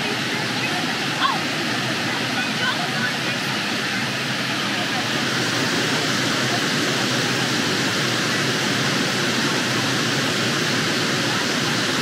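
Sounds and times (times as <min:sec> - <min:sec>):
waterfall rushing over boulders: 0:00.0 - 0:12.0.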